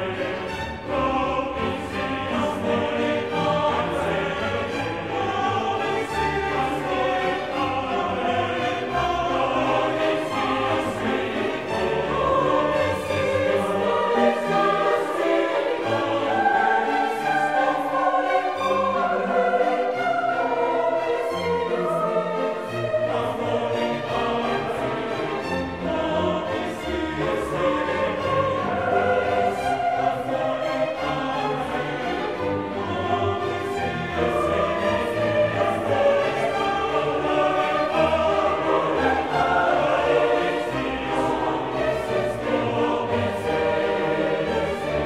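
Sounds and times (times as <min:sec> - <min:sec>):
choir singing held notes: 0:00.0 - 0:45.0
orchestral music: 0:00.0 - 0:45.0.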